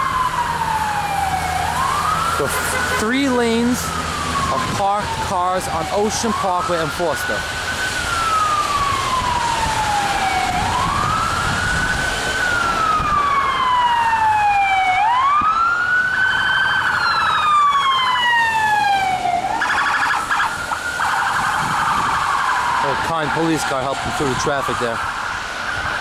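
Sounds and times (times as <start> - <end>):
ambulance siren wailing: 0.0 - 26.0.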